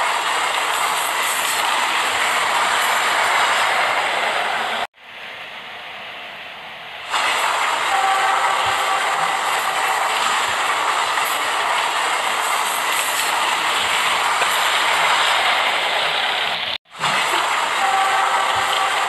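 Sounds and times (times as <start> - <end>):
train rattling along track: 0.0 - 19.0.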